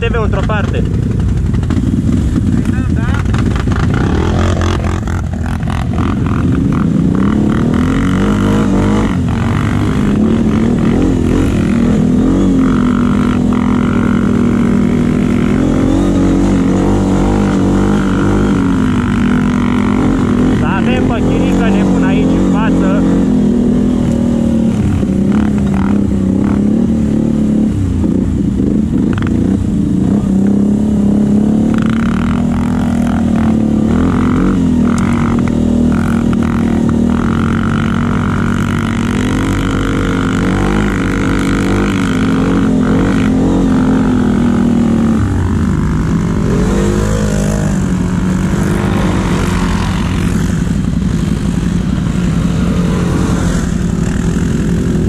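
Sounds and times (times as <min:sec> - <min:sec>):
another atv approaching: 0:00.0 - 0:55.0
atv engine revving: 0:00.0 - 0:55.0.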